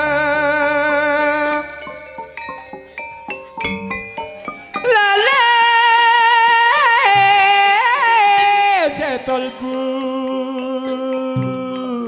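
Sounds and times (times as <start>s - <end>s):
person singing ornamented notes: 0.0s - 12.0s.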